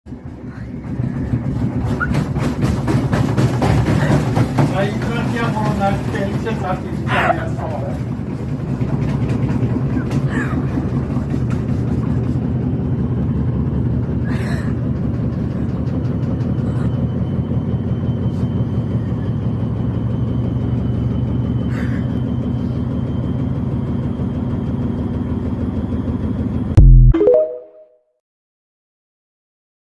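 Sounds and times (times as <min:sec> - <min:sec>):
washing machine rumbling and banging: 0:00.1 - 0:26.8.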